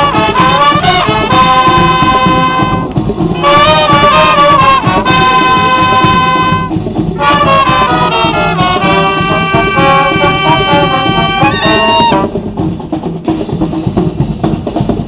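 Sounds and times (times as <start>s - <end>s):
brass marching band playing: 0.0s - 15.0s.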